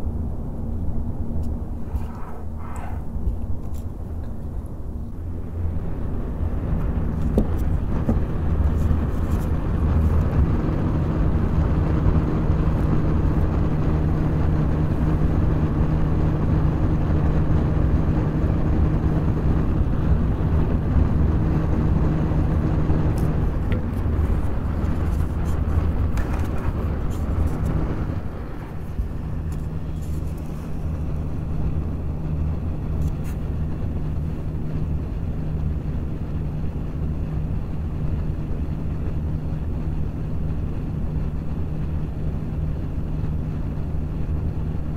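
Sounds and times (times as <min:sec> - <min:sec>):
computer fans rushing: 0:01.1 - 0:44.9.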